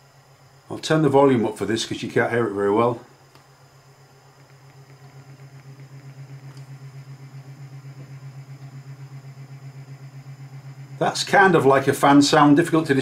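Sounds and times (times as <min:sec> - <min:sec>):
pulsing fan-like hum: 0:00.0 - 0:13.0.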